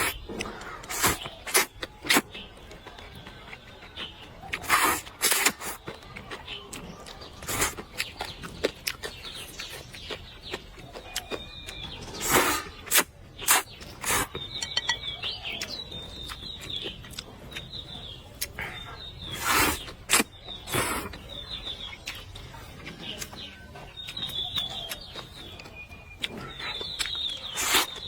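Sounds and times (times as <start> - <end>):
small birds twittering: 0.0 - 28.0.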